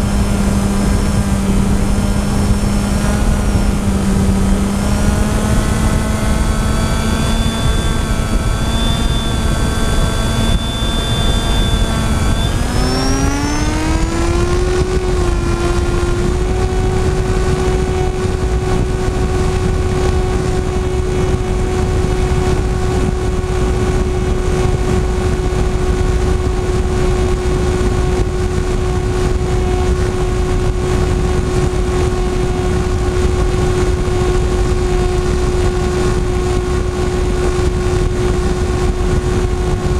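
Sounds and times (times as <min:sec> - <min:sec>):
model aircraft motor whining: 0:00.0 - 0:39.9.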